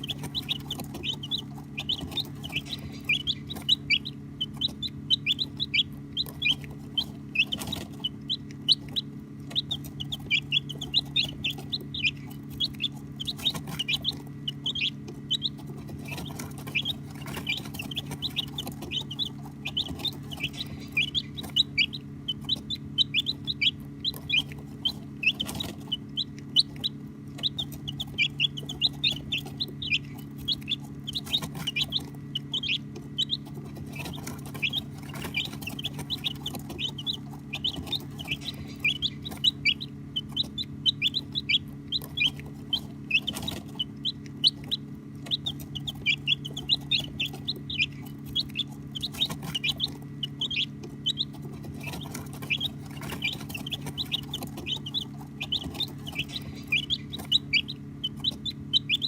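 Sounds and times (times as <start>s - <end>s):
baby chicks peeping: 0.0s - 59.0s
steady low hum: 0.0s - 59.0s.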